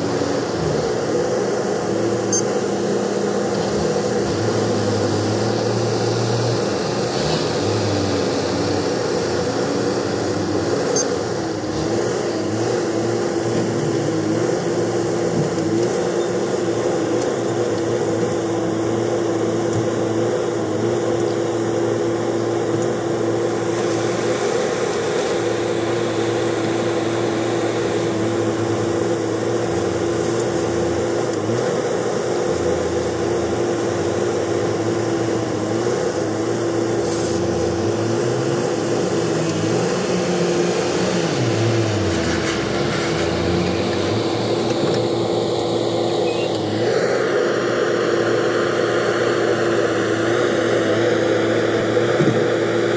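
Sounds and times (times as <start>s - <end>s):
dump truck diesel engine running: 0.0s - 52.9s.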